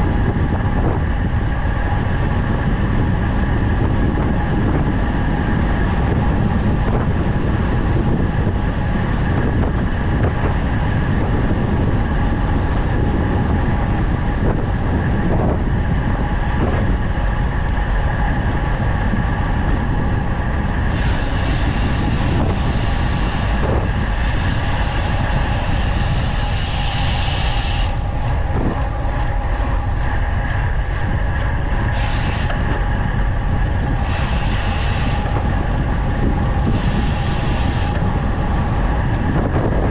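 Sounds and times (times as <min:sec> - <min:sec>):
tyres rolling on asphalt: 0:00.0 - 0:39.9
wind rushing over microphone: 0:00.0 - 0:39.9.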